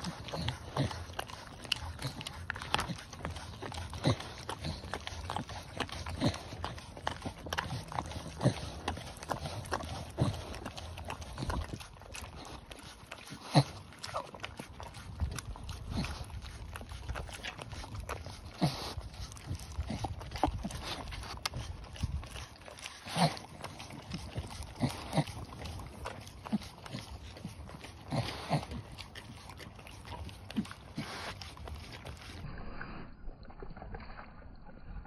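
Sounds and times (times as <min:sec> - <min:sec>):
dog licking and lapping food: 0:00.0 - 0:35.0.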